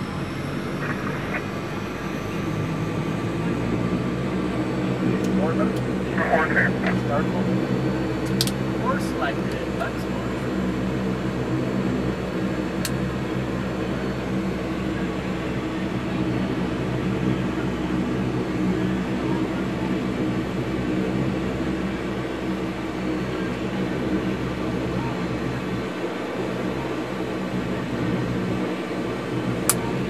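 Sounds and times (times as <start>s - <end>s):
turboprop engines droning: 0.0s - 30.0s.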